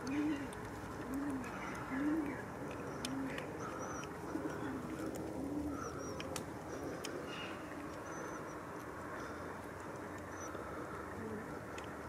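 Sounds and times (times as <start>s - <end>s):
pigeons cooing: 0.0s - 9.6s, 10.2s - 11.8s.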